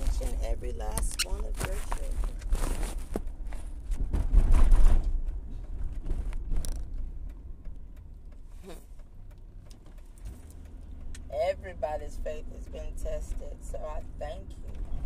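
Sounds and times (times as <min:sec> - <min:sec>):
low cabin rumble: 0:00.0 - 0:15.0.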